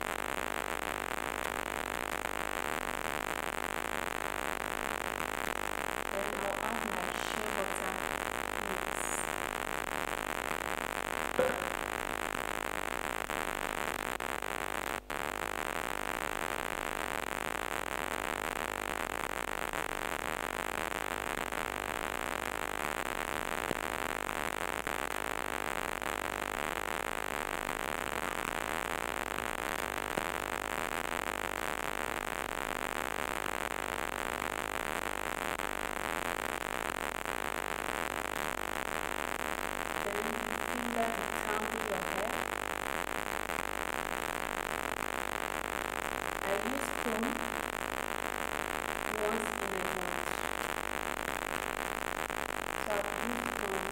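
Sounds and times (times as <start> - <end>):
static hiss: 0.0 - 53.9.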